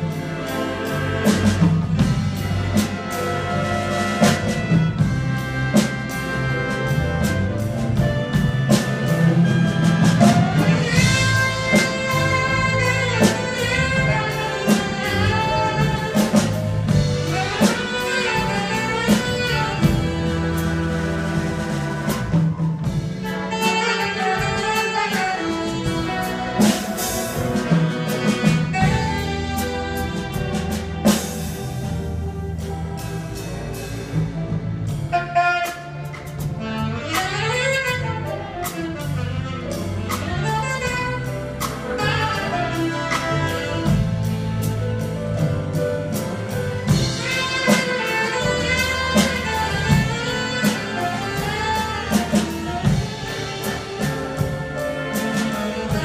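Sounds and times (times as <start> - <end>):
orchestra playing jazz piece: 0.0 - 56.0
saxophone solo: 0.0 - 56.0
steady drum beat: 0.0 - 56.0.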